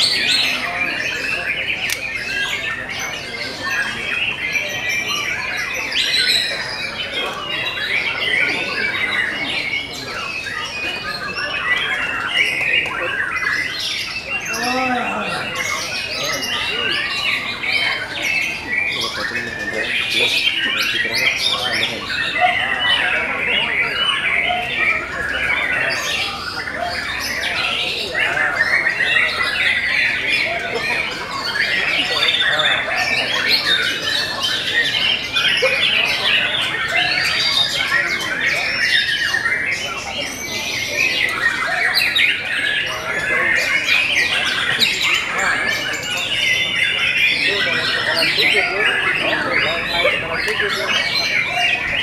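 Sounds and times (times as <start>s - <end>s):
birds singing whistles and trills: 0.0s - 52.0s.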